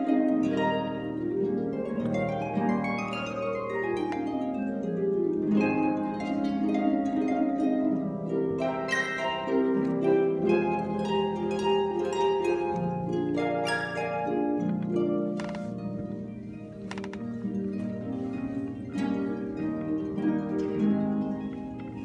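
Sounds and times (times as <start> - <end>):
harp plucked notes: 0.0 - 22.0
plucked harp chords: 0.0 - 22.0.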